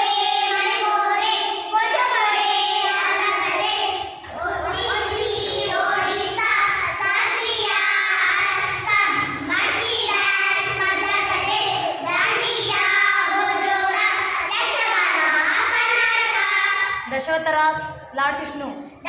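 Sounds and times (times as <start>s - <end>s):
girls singing in unison: 0.0s - 17.1s.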